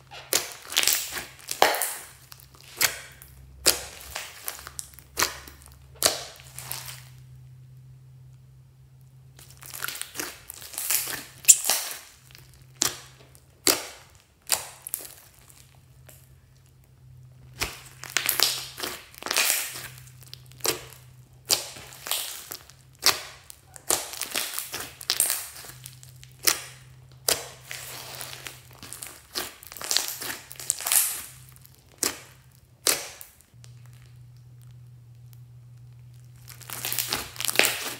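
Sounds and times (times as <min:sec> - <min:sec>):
slime squelching and popping: 0:00.0 - 0:07.4, 0:09.3 - 0:37.9.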